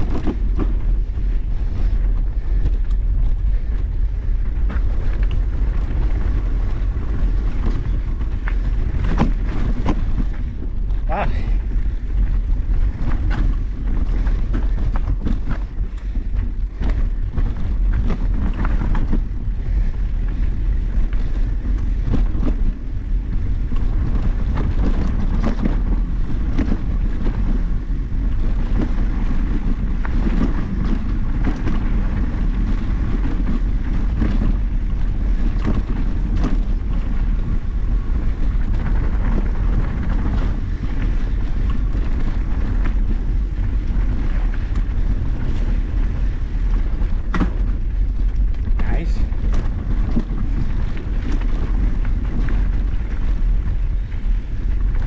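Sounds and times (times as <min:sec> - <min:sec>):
bike tyres knocking and rattling: 0:00.0 - 0:55.0
wind rumble on microphone: 0:00.0 - 0:55.0.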